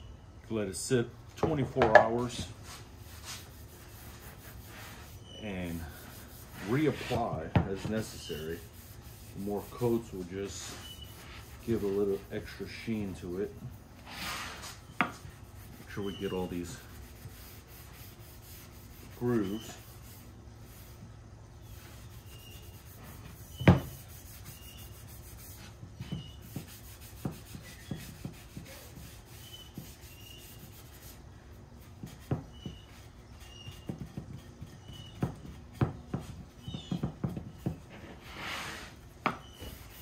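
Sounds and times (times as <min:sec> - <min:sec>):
rag rubbing wood: 0:01.4 - 0:31.2, 0:31.8 - 0:40.0.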